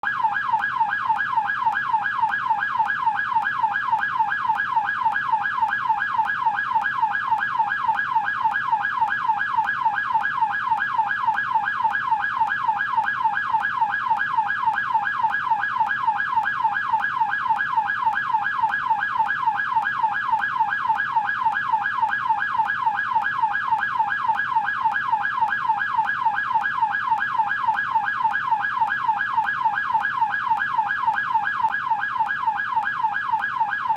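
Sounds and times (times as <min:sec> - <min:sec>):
police siren yelping: 0:00.0 - 0:33.9.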